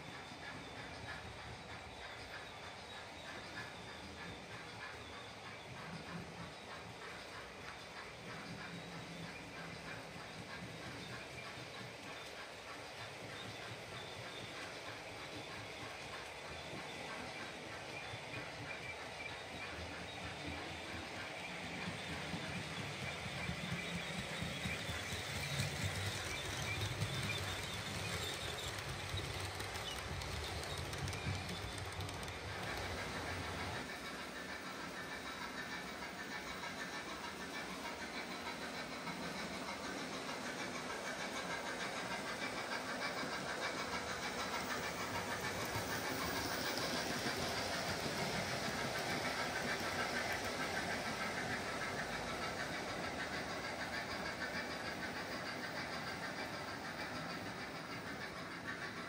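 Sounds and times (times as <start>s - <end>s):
model locomotive motor whir: 0.0s - 59.0s
model train wheels on rails: 0.0s - 59.0s.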